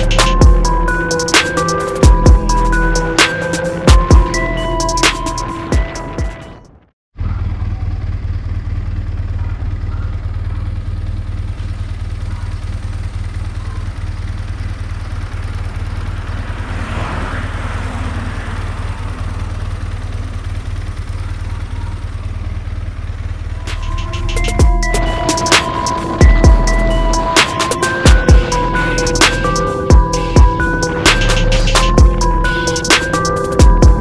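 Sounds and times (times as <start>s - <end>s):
motorcycle engine running: 0.0s - 6.4s, 7.2s - 34.0s.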